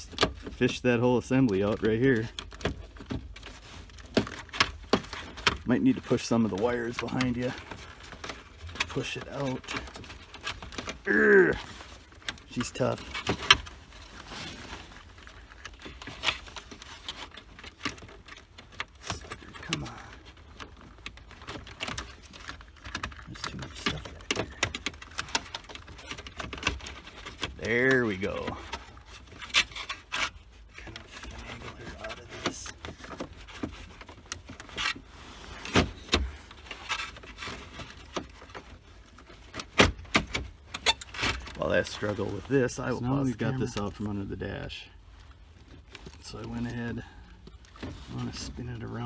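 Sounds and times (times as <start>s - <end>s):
plastic parts clicking and knocking: 0.0s - 44.3s.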